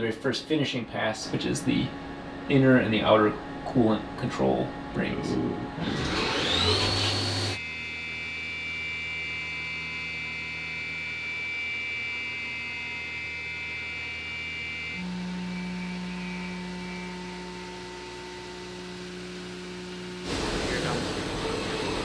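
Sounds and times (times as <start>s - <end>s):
low machine hum: 0.0s - 22.0s
milling machine spindle whine: 1.2s - 22.0s.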